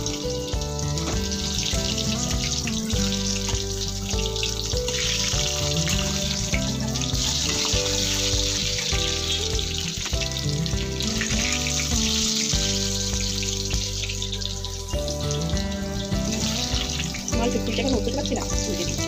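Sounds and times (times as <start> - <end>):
background music with held notes: 0.0 - 19.0
potatoes sizzling in hot oil: 0.0 - 19.0.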